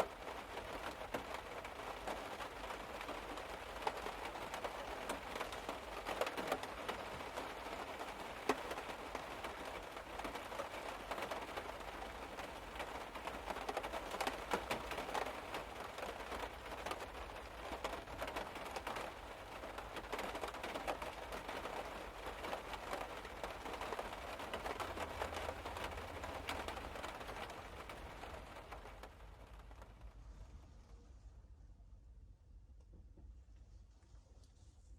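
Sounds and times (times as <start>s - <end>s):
rain on car roof and windows: 0.0s - 30.6s.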